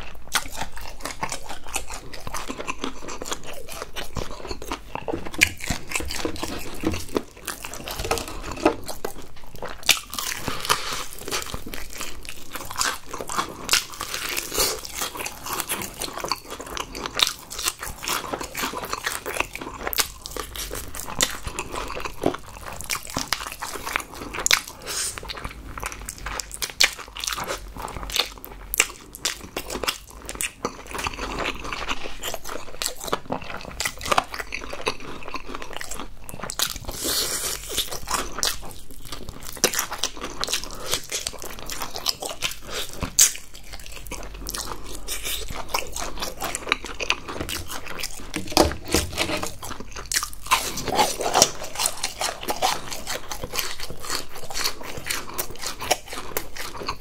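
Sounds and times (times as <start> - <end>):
crunching bites and chewing: 0.0 - 57.0.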